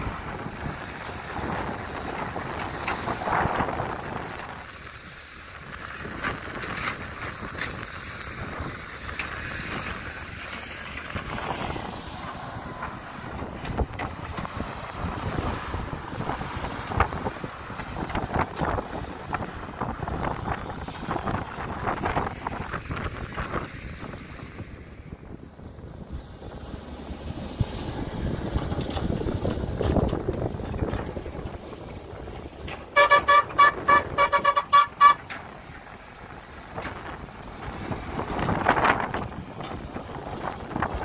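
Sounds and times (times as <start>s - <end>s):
truck engine running: 0.0s - 41.0s
wind buffeting the microphone: 0.0s - 41.0s.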